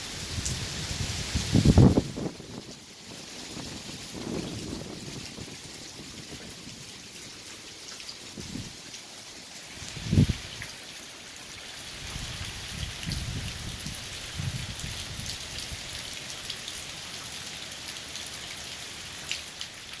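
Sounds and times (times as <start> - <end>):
heavy rain on trees: 0.0 - 20.0.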